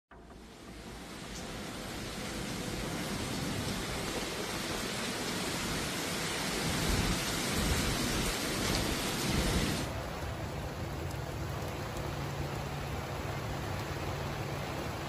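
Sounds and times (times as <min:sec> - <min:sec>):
heavy rain pouring: 0:00.3 - 0:15.0.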